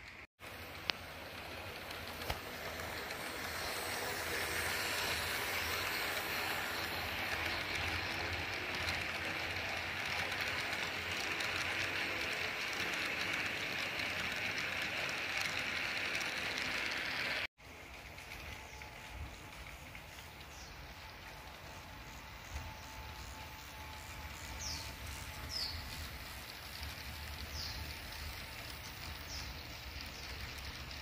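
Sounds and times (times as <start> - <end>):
faint clicking of wheels: 0.0 - 31.0
model train whirring on rails: 0.0 - 31.0.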